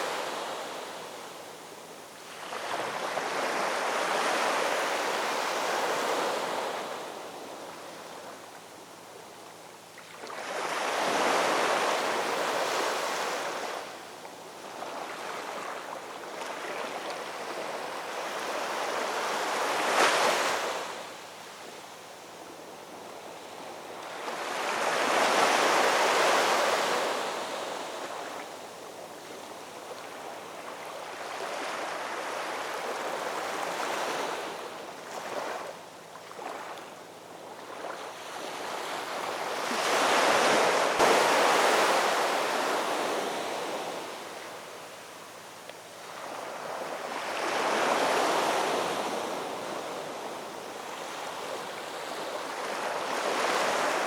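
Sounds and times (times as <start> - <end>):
ocean waves breaking on shore: 0.0 - 8.5, 10.0 - 21.8, 22.4 - 54.0.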